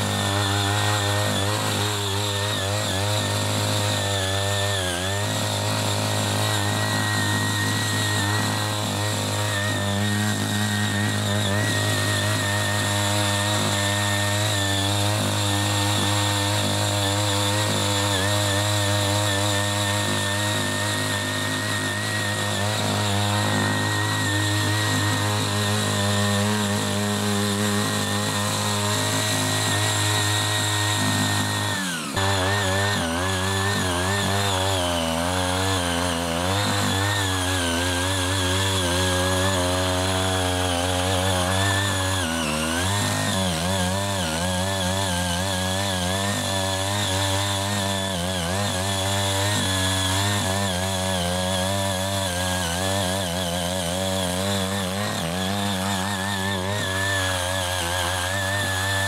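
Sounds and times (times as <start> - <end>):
blades churning soil: 0.0 - 59.0
tiller engine running hard: 0.0 - 59.0.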